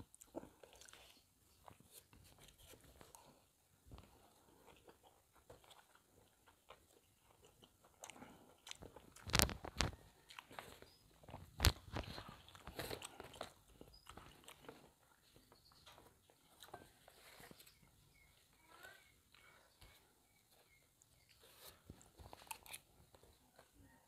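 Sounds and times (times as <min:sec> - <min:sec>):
chewing and crunching food: 0:00.0 - 0:24.0.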